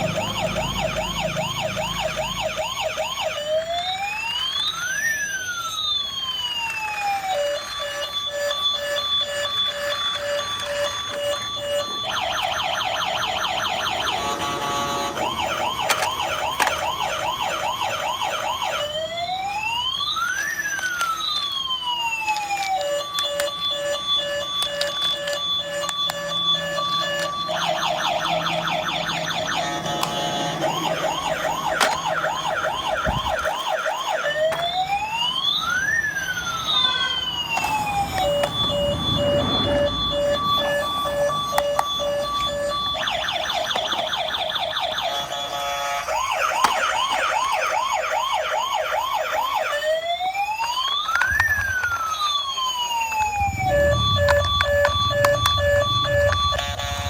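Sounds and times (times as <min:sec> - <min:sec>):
electronic toy siren: 0:00.0 - 0:57.0.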